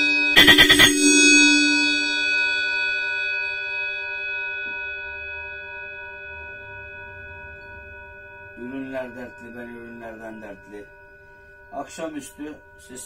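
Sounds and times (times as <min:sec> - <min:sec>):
bell-chime car horn: 0:00.4 - 0:03.5, 0:04.5 - 0:13.0.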